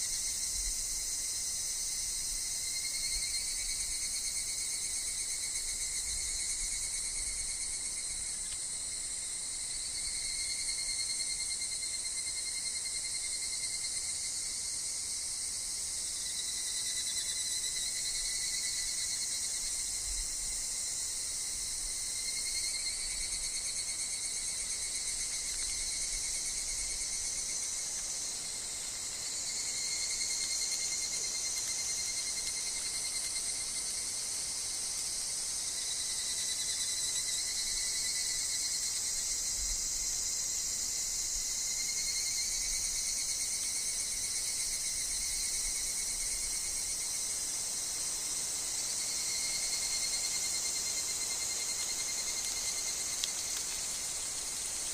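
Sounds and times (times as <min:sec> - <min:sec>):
cicadas ringing: 0:00.0 - 0:54.9
insects calling: 0:00.0 - 0:54.9.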